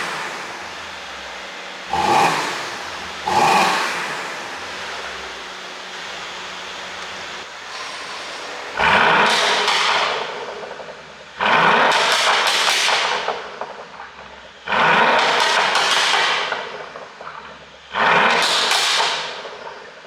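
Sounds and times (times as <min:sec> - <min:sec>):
car engine revving: 0:00.0 - 0:19.0
exhaust pops and crackles: 0:00.0 - 0:20.0.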